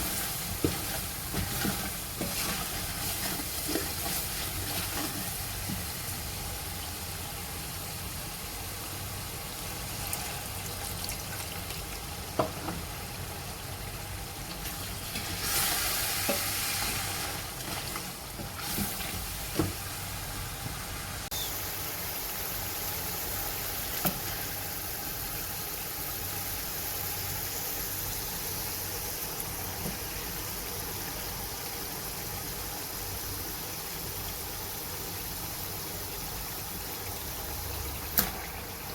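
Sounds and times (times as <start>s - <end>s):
meat sizzling in a pot: 0.0s - 38.9s.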